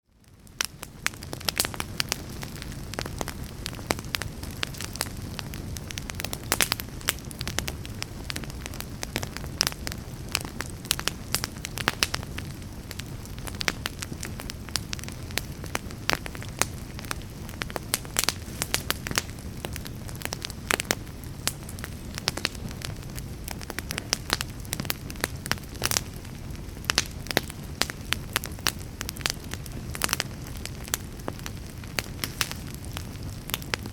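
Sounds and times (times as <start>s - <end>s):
fire crackling and popping: 0.0s - 33.9s.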